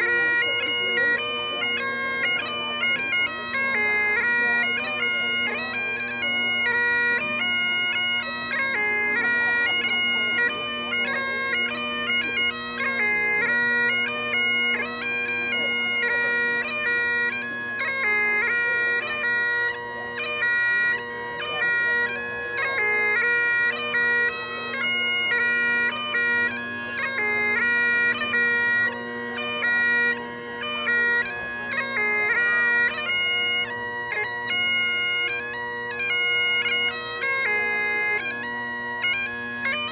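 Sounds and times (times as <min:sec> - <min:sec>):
bagpipe drones: 0:00.0 - 0:39.9
bagpipes playing a melody: 0:00.0 - 0:39.9.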